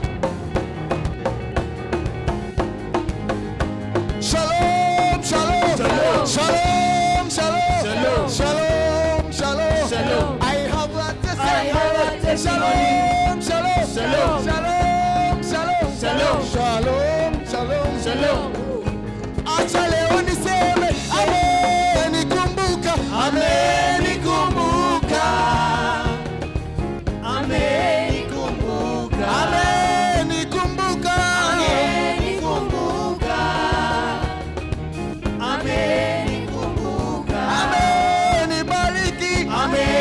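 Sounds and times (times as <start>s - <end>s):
band with bass and drums: 0.0s - 40.0s
voices singing: 4.2s - 40.0s.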